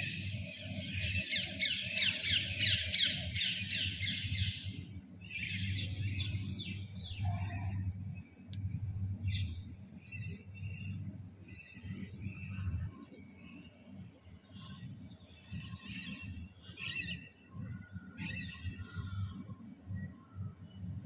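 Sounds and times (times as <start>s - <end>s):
small birds chirping: 0.0s - 17.5s
low steady rumble: 0.0s - 21.0s.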